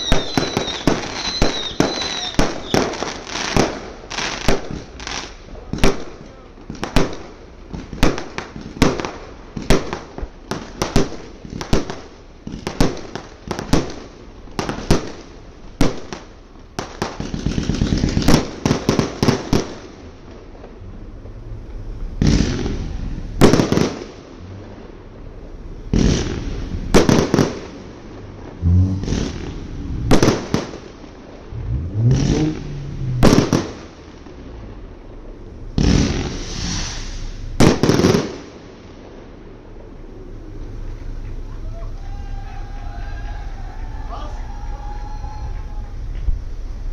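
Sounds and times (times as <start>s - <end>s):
fireworks banging and crackling: 0.0s - 46.9s.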